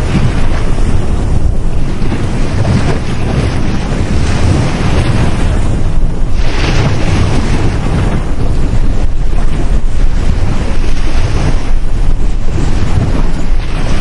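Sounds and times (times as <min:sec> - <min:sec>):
ocean waves breaking: 0:00.0 - 0:14.0
wind buffeting microphone: 0:00.0 - 0:14.0.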